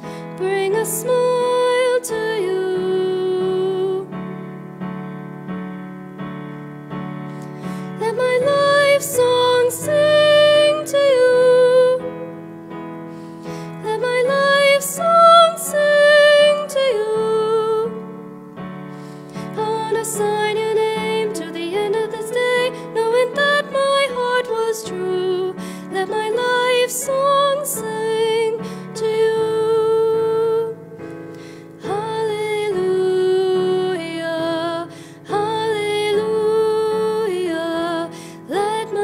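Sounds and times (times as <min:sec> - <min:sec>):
woman singing slow song: 0:00.0 - 0:04.5, 0:07.6 - 0:12.5, 0:13.1 - 0:18.3, 0:19.0 - 0:39.0
digital piano chords: 0:00.0 - 0:39.0.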